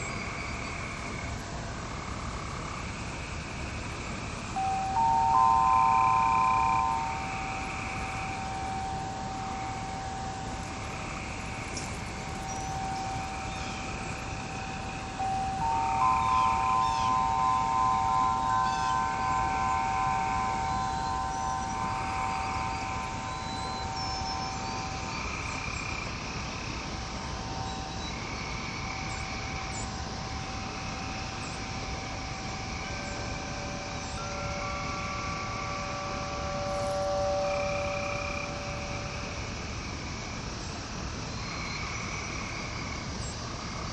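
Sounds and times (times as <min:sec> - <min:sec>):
outdoor background hiss: 0:00.0 - 0:43.9
rushing ambient noise: 0:00.0 - 0:43.9
faint high chirps: 0:04.0 - 0:39.8
wind chime tone ringing: 0:04.0 - 0:40.2.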